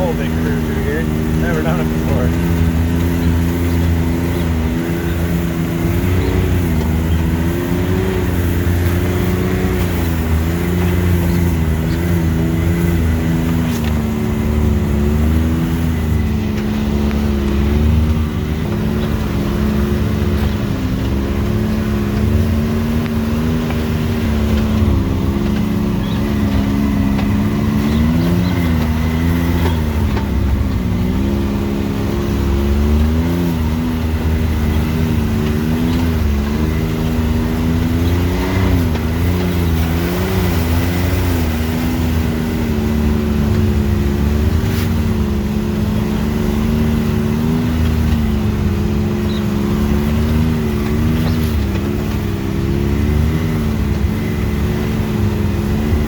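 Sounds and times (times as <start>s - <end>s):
off-road vehicle engine running: 0.0s - 56.0s.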